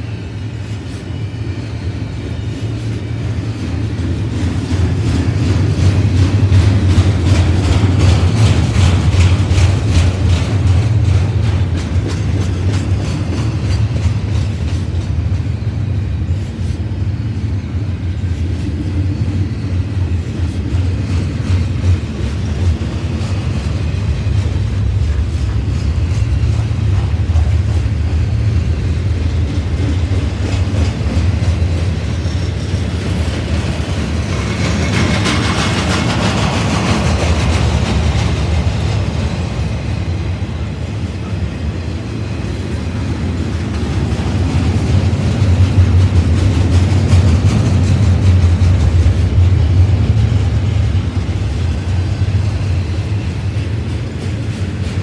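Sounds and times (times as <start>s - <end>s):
steel wheels rumbling on rail: 0.0s - 55.0s
wheels clicking over rail joints: 2.6s - 16.7s, 20.0s - 55.0s.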